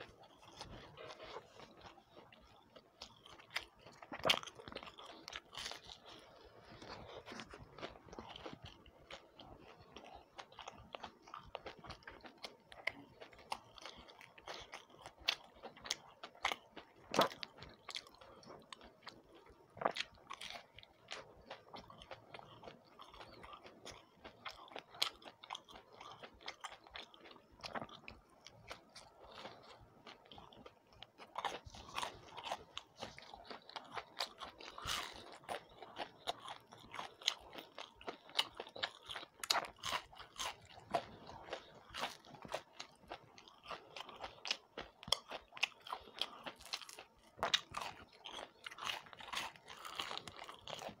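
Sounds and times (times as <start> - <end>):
crisp chewing crunches: 0.0 - 51.0.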